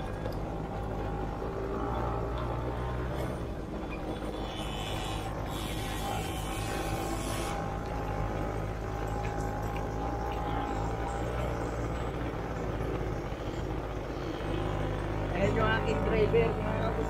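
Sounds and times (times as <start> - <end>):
quad bike engine running: 0.0 - 17.0.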